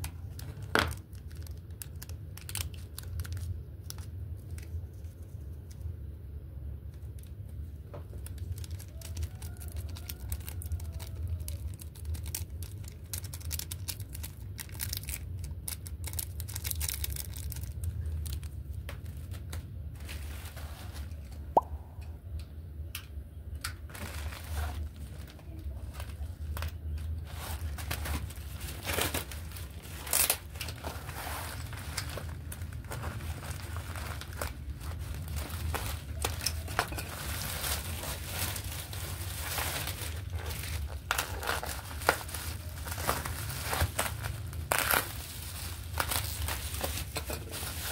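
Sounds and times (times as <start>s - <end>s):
plastic bag crinkling and tearing: 0.0s - 5.8s, 7.0s - 21.6s, 23.8s - 47.9s.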